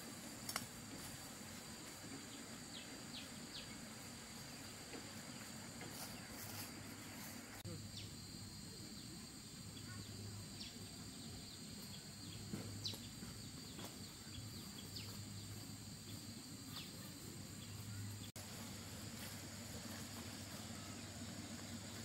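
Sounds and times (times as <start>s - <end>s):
high insect trill: 0.0s - 22.0s.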